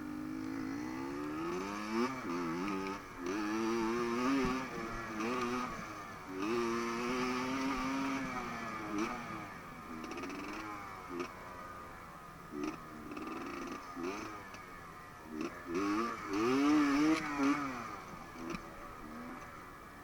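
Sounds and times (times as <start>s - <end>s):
dirt bike engine revving: 0.0s - 19.7s.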